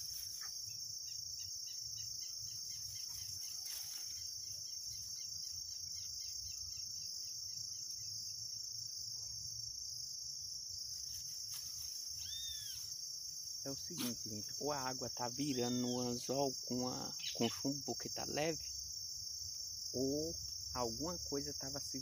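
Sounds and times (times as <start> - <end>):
insects trilling: 0.0 - 22.0
pulsing insect call: 0.0 - 22.0.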